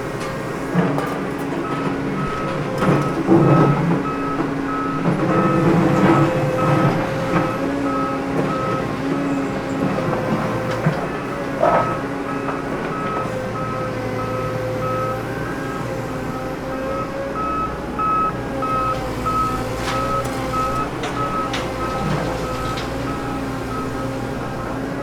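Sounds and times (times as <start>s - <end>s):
reversing alarm beeping: 1.6s - 24.9s.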